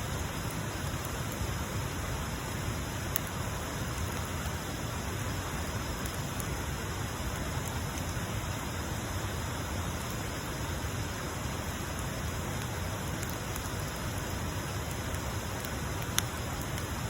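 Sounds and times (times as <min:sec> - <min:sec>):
bonfire hissing and crackling: 0:00.0 - 0:17.0.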